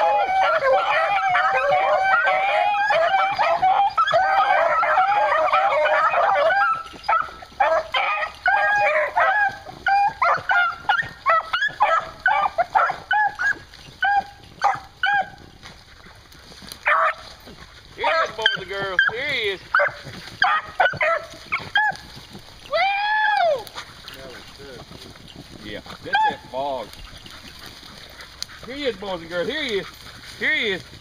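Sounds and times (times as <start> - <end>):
dogs baying and barking: 0.0 - 31.0.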